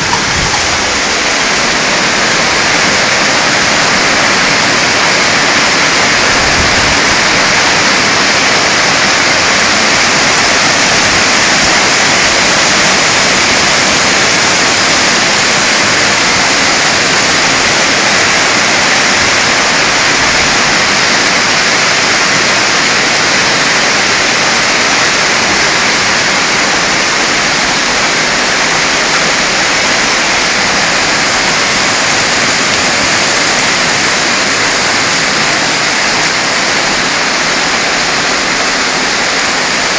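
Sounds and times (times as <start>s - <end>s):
hail and rain pelting down: 0.0s - 39.9s.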